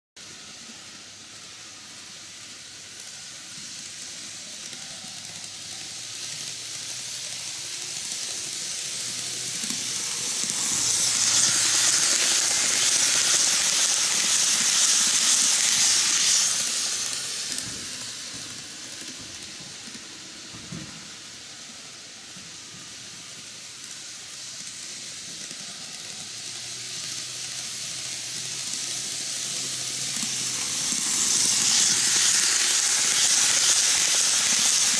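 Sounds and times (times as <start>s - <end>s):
model train wheels rattling: 2.3s - 34.9s.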